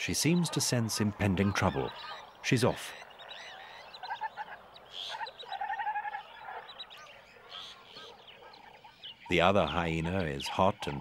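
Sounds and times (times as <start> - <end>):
birds calling and chirping: 0.0 - 11.0.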